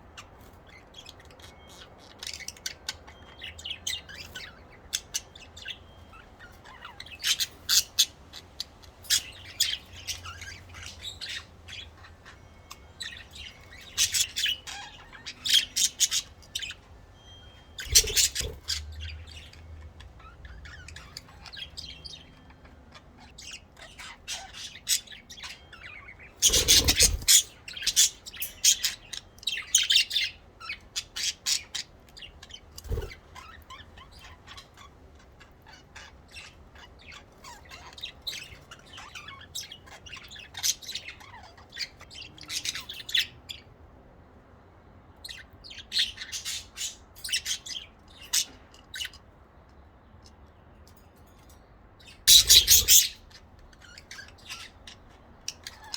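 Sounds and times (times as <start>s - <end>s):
budgerigars chirping and chattering: 0.0s - 44.0s, 45.1s - 55.9s.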